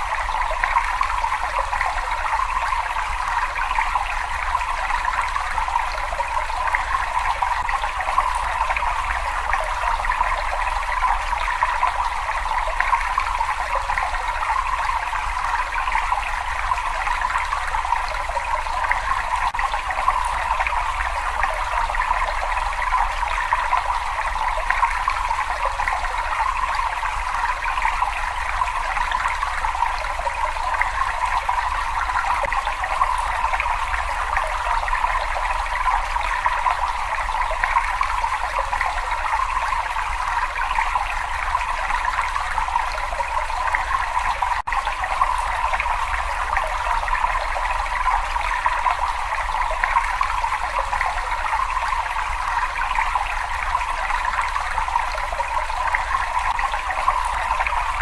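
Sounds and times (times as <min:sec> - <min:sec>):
water trickling in a cave: 0:00.0 - 0:58.0.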